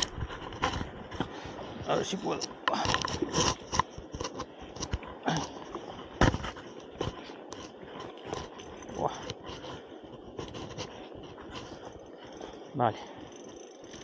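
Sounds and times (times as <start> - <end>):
knocks and scrapes on riverbank: 0.0 - 14.0.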